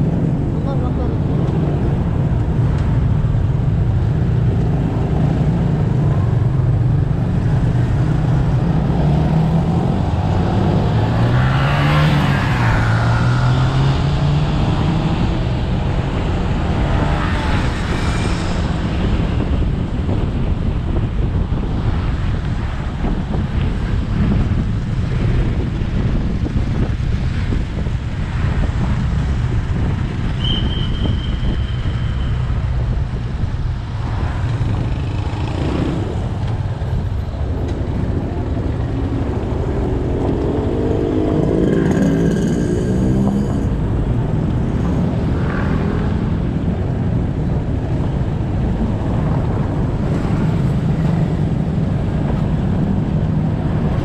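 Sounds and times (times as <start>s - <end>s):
passing vehicle: 0.0s - 54.0s
wind and road noise: 0.0s - 54.0s.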